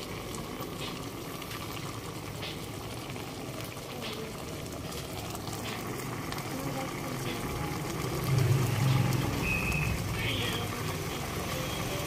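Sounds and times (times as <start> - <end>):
sauce bubbling in a pot: 0.0 - 12.0.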